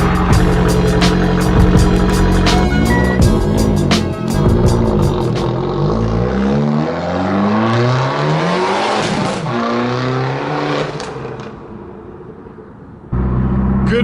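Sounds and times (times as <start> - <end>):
turbocharged engine accelerating hard: 0.0 - 11.4.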